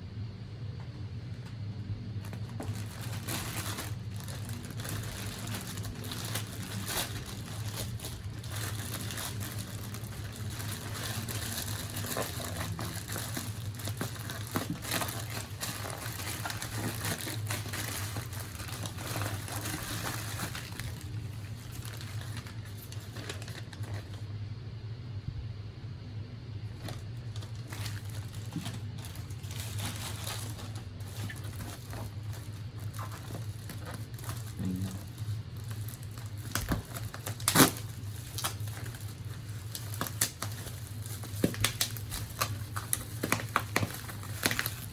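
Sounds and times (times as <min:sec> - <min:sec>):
paper packaging crinkling: 0:02.2 - 0:24.2, 0:26.7 - 0:44.9.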